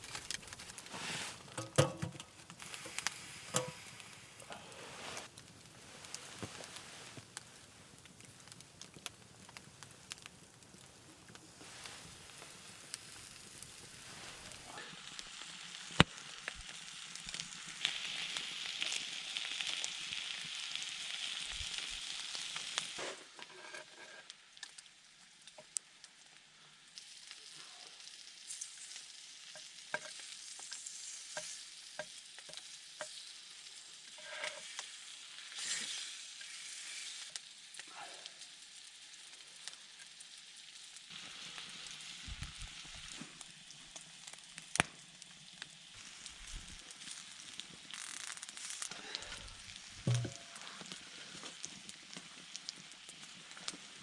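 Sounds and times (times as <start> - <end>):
fire pops and crackles: 0.0 - 23.5, 28.1 - 54.0
food sizzling on hot stone: 0.0 - 54.0.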